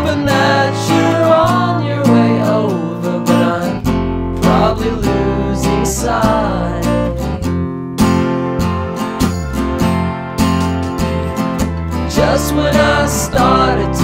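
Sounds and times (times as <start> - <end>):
song with acoustic guitar: 0.0 - 14.0.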